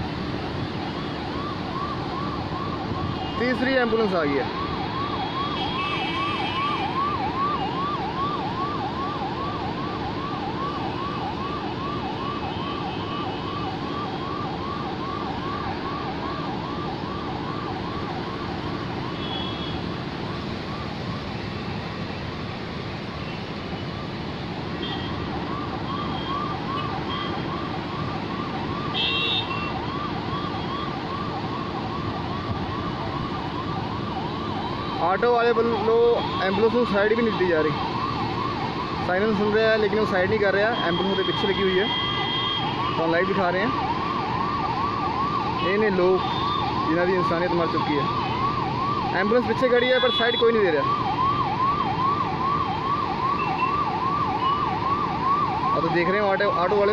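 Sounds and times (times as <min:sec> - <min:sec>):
ambulance siren yelping: 0:00.0 - 0:56.9
traffic noise: 0:00.0 - 0:56.9.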